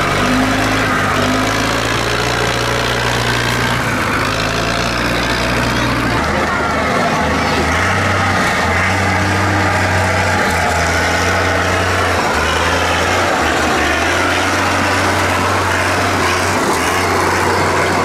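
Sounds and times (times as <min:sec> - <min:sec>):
tractor diesel engine droning: 0:00.0 - 0:18.0.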